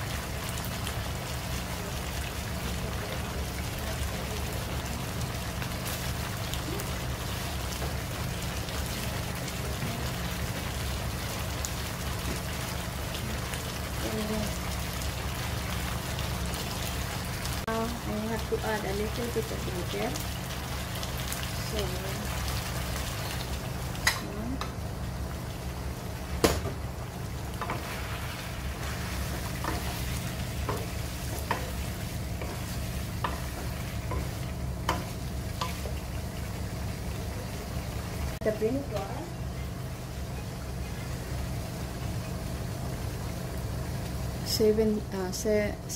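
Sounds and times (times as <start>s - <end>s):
food sizzling in a pan: 0.0s - 45.9s
low steady hum: 0.0s - 45.9s.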